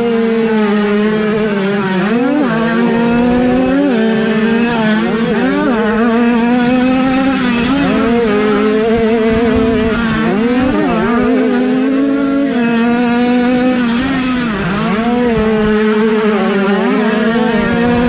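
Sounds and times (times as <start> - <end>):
motorcycle engine revving high: 0.0 - 18.0.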